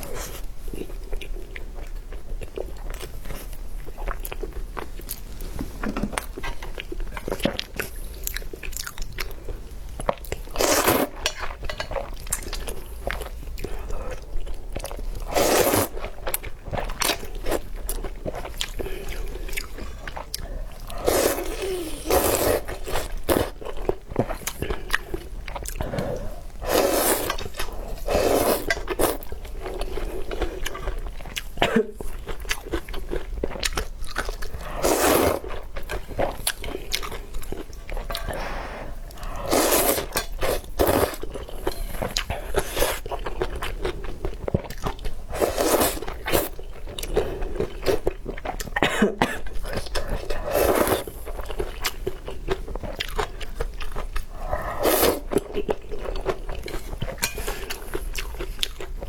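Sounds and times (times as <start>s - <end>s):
person crunching and chewing food: 0.0s - 48.8s, 49.4s - 59.0s.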